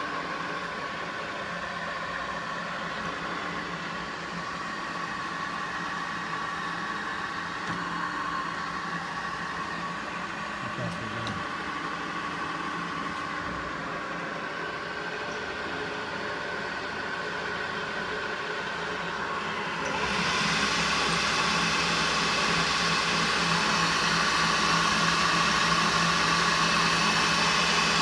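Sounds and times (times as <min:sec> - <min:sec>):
drill press motor hum and whine: 0:00.0 - 0:28.0.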